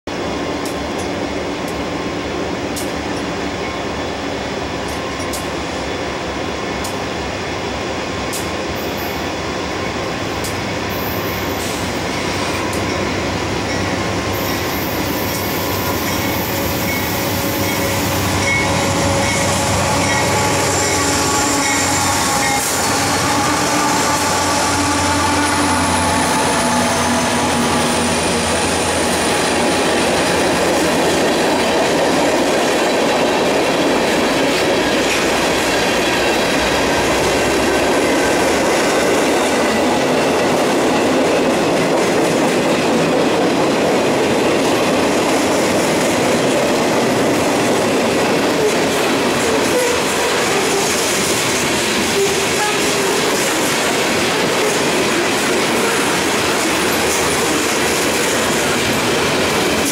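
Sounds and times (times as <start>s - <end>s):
freight train rumble: 0.1s - 59.9s.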